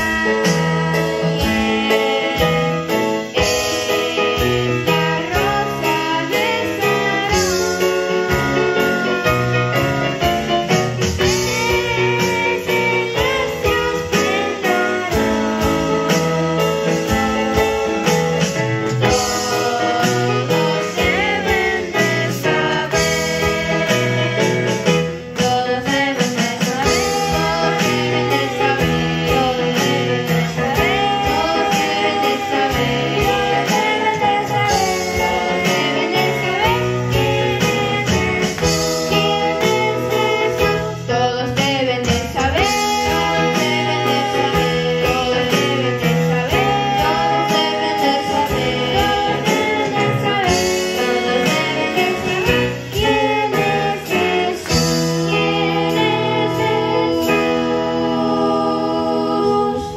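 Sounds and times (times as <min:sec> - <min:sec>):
girls singing duet: 0:00.0 - 0:59.9
instrumental accompaniment: 0:00.0 - 0:59.9.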